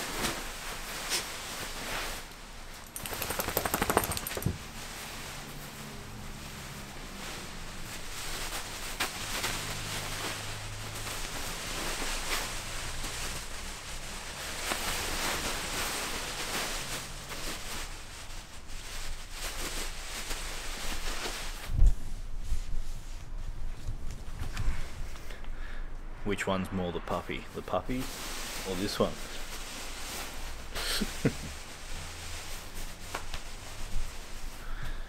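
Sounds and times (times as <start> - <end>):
rustling of fabric cover: 0.0 - 25.3, 27.0 - 35.0.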